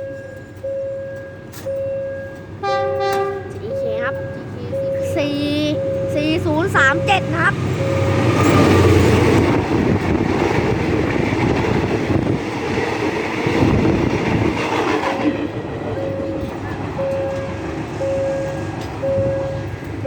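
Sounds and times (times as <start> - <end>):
train carriages clattering on rails: 0.0 - 20.0.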